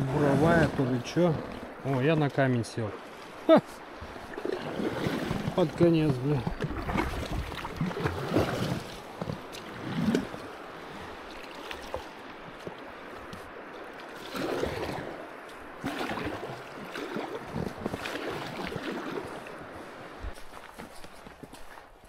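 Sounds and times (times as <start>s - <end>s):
paddle strokes splashing water: 0.0s - 22.0s.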